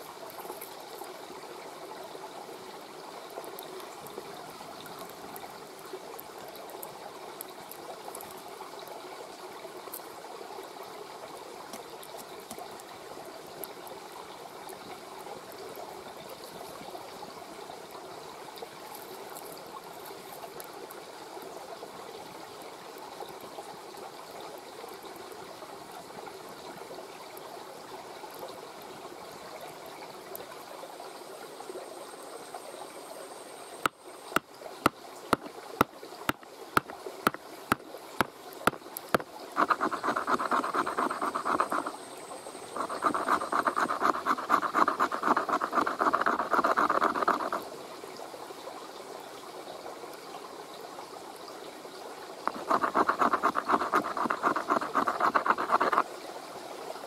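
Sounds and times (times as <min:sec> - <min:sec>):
mountain stream running: 0:00.0 - 0:57.0.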